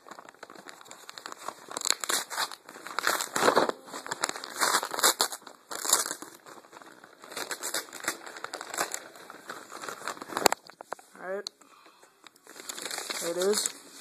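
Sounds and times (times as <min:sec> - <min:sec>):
paper wrapping crinkling and tearing: 0:00.0 - 0:11.1, 0:12.4 - 0:14.0.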